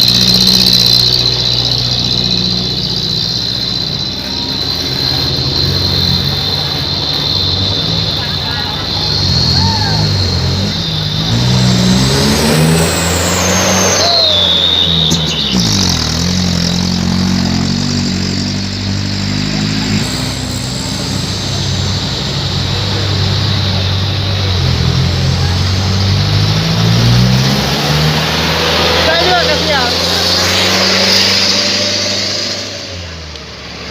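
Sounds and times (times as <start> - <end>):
truck engine with loud exhaust: 0.0 - 33.9.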